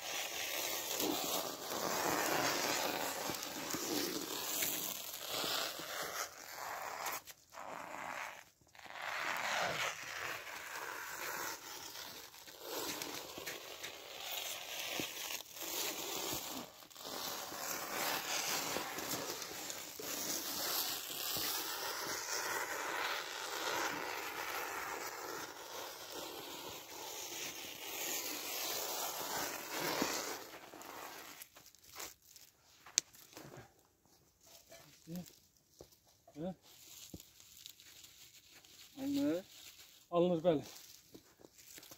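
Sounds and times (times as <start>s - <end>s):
stretch film crackling rustle: 0.0s - 41.9s.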